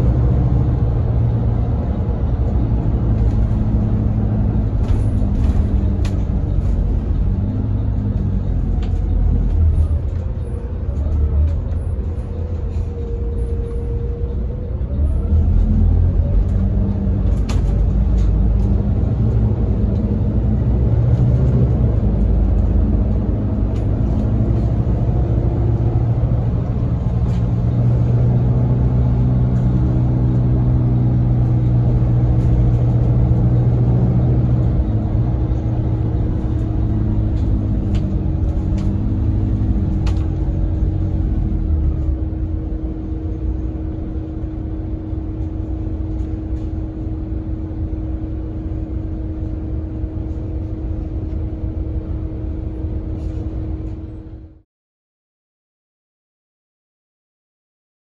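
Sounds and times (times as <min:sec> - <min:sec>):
bus engine heard from inside: 0:00.0 - 0:54.7.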